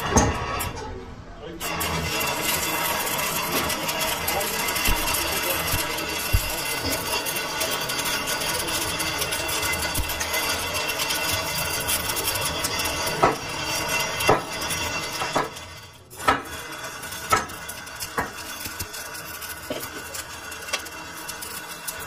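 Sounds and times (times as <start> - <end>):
steady background noise: 0.0 - 22.0
metal gearbox parts clanking: 1.7 - 22.0.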